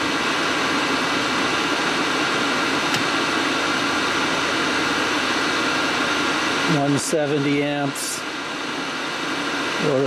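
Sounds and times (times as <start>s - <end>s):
heat gun and heater blowing: 0.0s - 10.0s.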